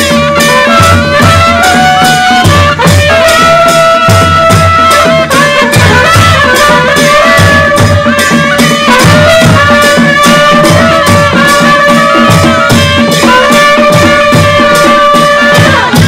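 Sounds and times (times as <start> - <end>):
cymbals: 0.0 - 16.0
drums beating: 0.0 - 16.0
reed and horn notes: 0.0 - 16.0.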